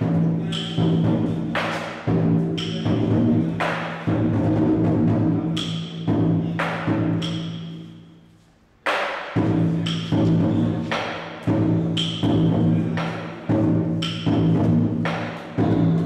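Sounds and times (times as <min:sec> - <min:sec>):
drum beating: 0:00.0 - 0:08.1, 0:08.8 - 0:16.0.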